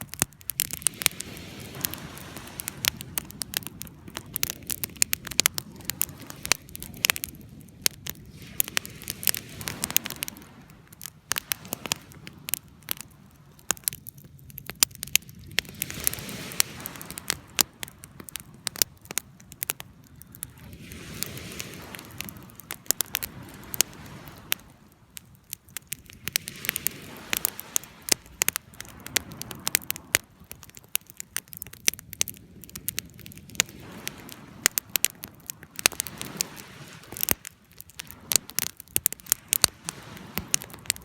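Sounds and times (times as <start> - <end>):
fire crackling and popping: 0.0 - 41.0
soft rush of flame: 0.0 - 41.0.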